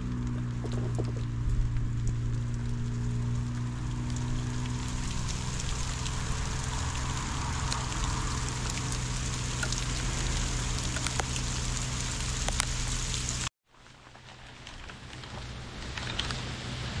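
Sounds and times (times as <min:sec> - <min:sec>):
rain falling on grass and timber: 0:00.0 - 0:17.0.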